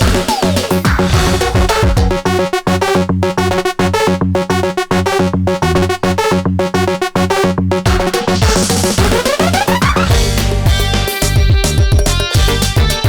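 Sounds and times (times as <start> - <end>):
electronic dance music on synthesizer: 0.0 - 13.0.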